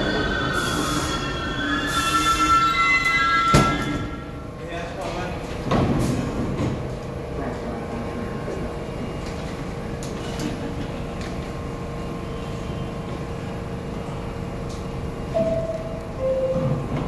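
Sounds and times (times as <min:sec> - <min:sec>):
train equipment hum: 0:00.0 - 0:17.0.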